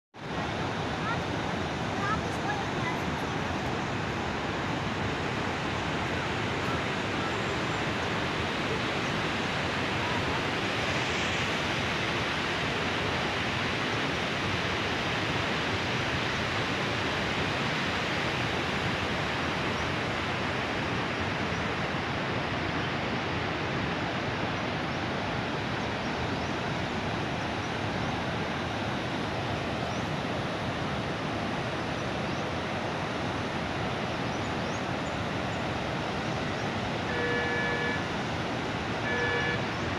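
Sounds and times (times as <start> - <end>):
river rushing over stones: 0.2 - 39.9.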